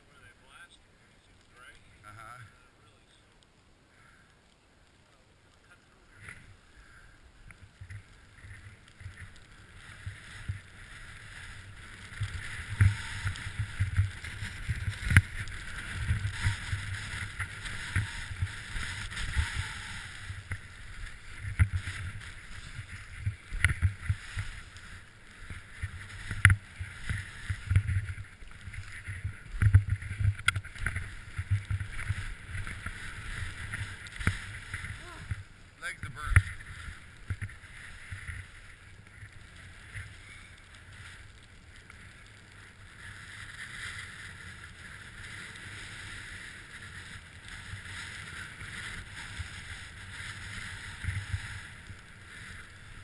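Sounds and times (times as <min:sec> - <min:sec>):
skis scraping over snow: 0:05.6 - 0:53.0.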